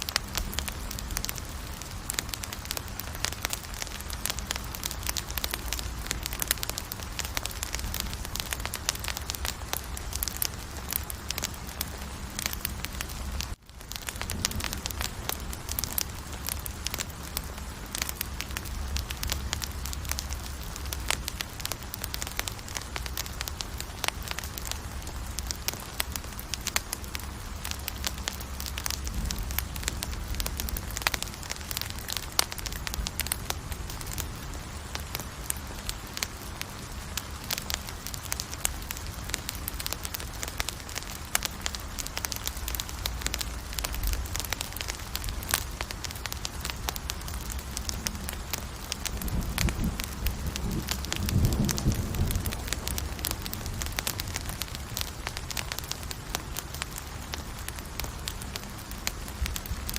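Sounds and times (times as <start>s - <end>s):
campfire crackling and popping: 0.0s - 59.9s
low rumble of flames: 0.0s - 59.9s.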